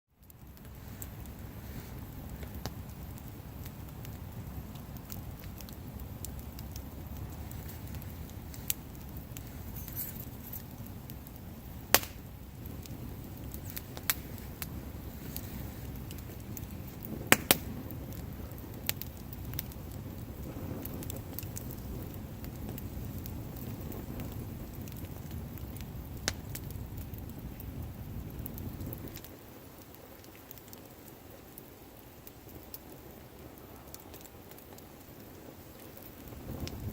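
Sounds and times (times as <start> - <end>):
burning wood crackling pops: 0.1 - 36.9
flame rushing: 0.2 - 36.9.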